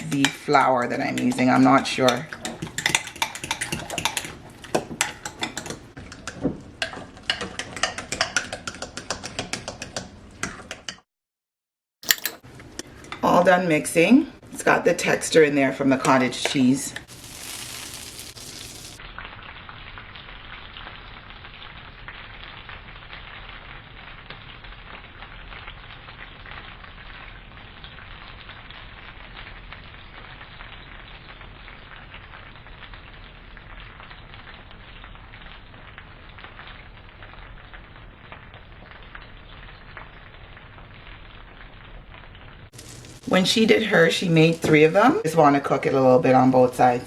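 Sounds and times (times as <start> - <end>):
pancake batter sizzling in pan: 0.0 - 10.2, 16.8 - 45.4.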